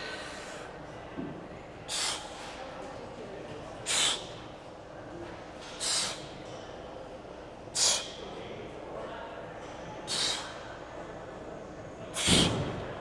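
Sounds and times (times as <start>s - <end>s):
gym room noise: 0.0s - 13.0s.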